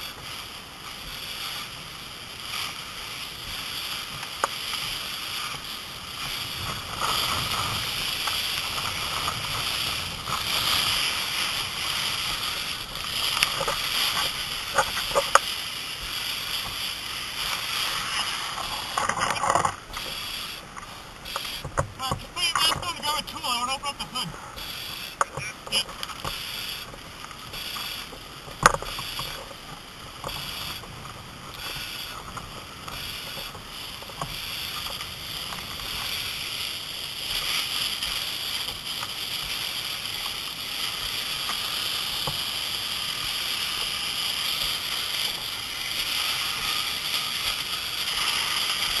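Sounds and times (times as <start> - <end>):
fire hose spray hissing: 0.0 - 49.0.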